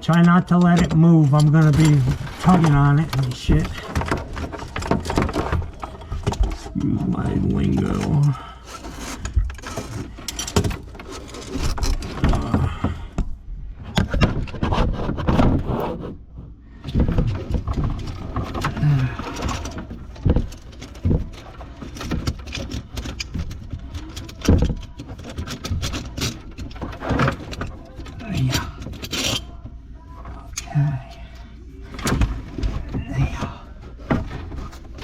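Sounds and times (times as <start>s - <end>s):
tools clunking and scraping: 0.0s - 35.0s.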